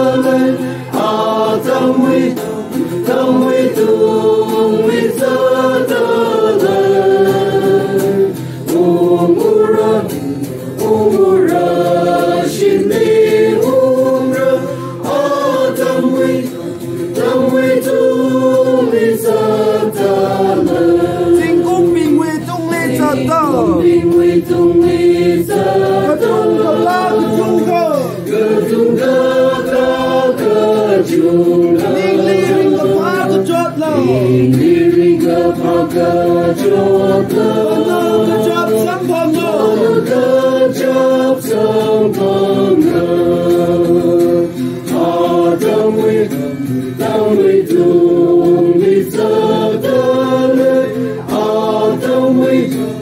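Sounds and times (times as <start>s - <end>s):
group singing a hymn: 0.0s - 53.0s.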